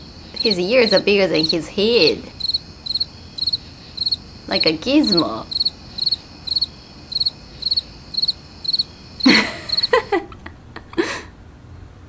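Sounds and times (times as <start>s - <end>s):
cricket chirping: 0.0s - 10.4s.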